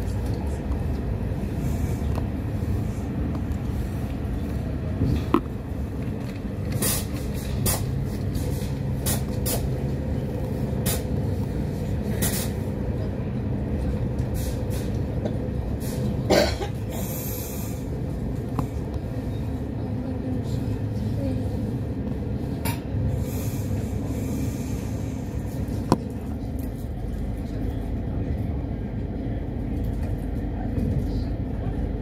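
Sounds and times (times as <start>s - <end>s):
train rumbling inside carriage: 0.0s - 32.0s.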